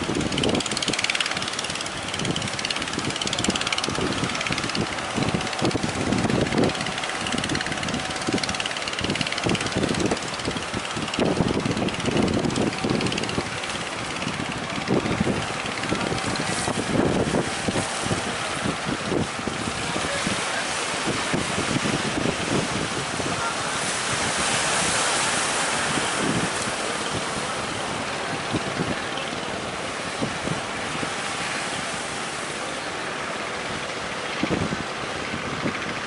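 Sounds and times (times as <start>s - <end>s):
boat engine running: 0.0s - 36.0s
surf rushing: 0.0s - 36.0s
wind buffeting microphone: 0.0s - 36.0s.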